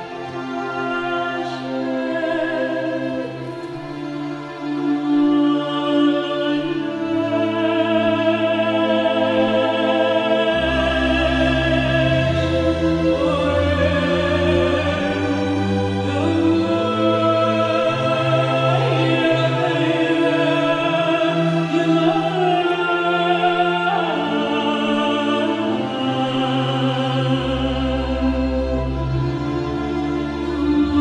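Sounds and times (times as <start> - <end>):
operatic singing voice: 0.0 - 31.0
slow orchestral music: 0.0 - 31.0.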